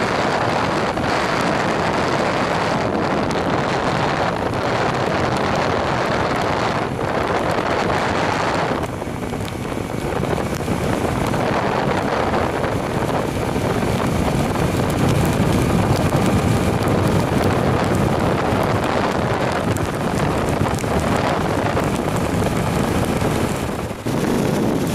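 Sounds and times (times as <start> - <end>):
moving vehicle rumble: 0.0 - 24.9
wind rushing over microphone: 0.0 - 24.9.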